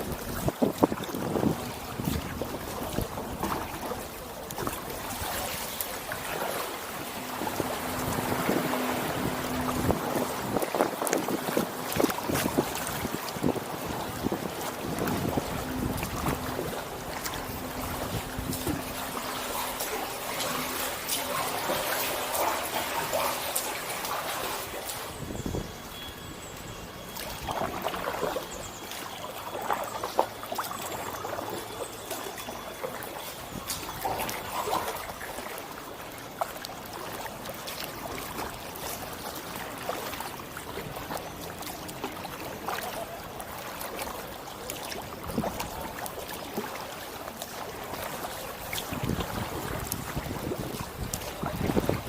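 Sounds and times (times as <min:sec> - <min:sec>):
water dripping off paddle: 0:00.0 - 0:25.2, 0:26.6 - 0:52.0
paddle dipping into water: 0:00.0 - 0:52.0
soft splashes: 0:00.0 - 0:52.0.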